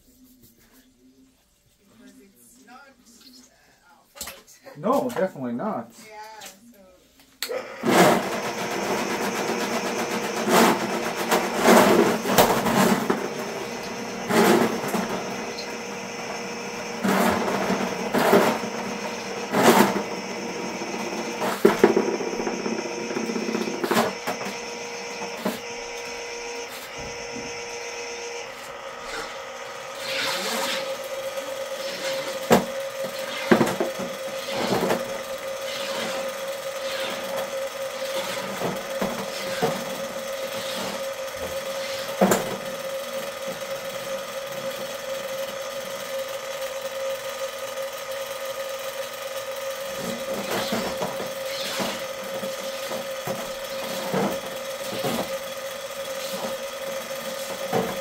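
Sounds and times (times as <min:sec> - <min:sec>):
drain machine motor running: 0:07.5 - 0:58.0.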